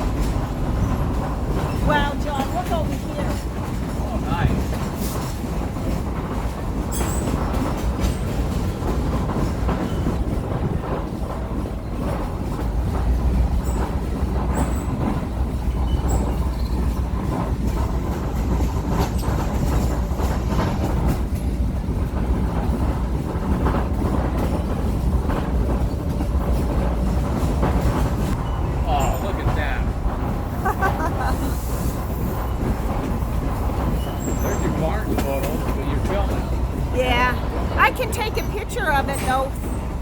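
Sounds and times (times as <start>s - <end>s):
train rumbling along track: 0.0s - 40.0s
wheels clacking over rail joints: 0.0s - 40.0s.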